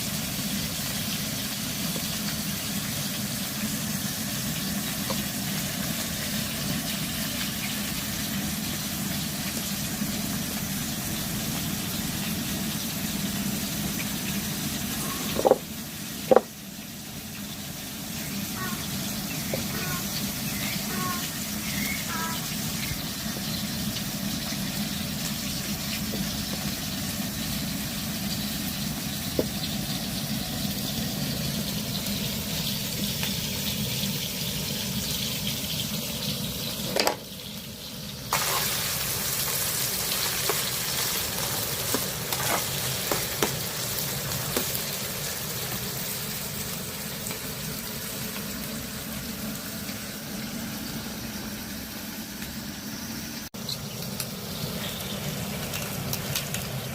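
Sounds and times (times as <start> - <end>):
food sizzling in a pan: 0.0 - 56.9.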